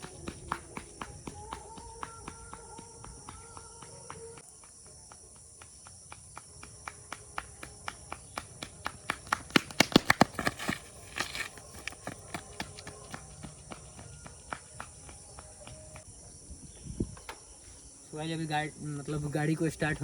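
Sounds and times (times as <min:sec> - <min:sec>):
footsteps running on a road: 0:00.0 - 0:16.8.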